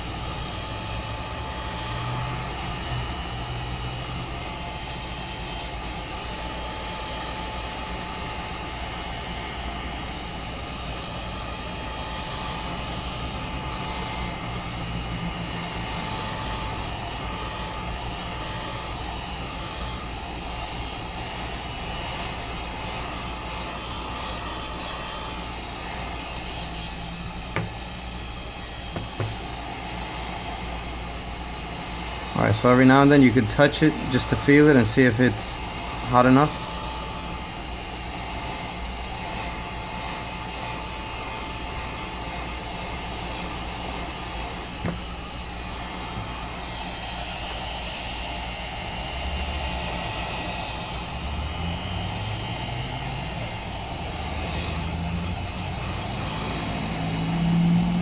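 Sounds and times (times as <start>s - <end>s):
heat gun blowing: 0.0s - 58.0s.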